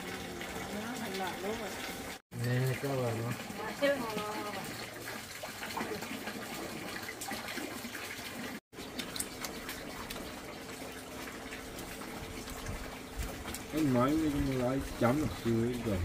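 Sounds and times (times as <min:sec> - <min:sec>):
running water splashing: 0:00.0 - 0:16.0.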